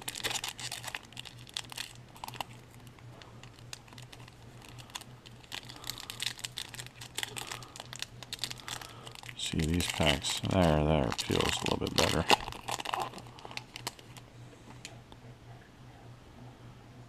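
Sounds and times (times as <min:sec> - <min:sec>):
card wrappers crinkling and rustling: 0:00.0 - 0:15.0
faint low hum: 0:00.0 - 0:17.0.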